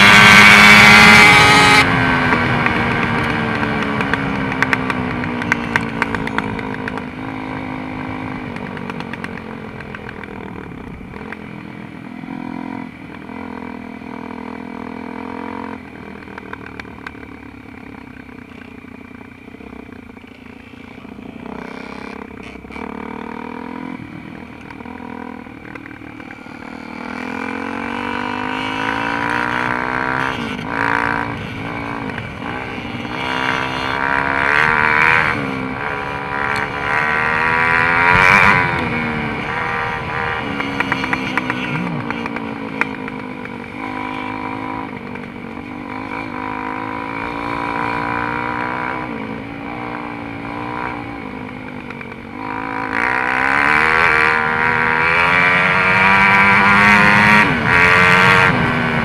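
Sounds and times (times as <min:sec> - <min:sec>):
dirt bike engine revving: 0:00.0 - 0:16.8, 0:17.9 - 0:59.0.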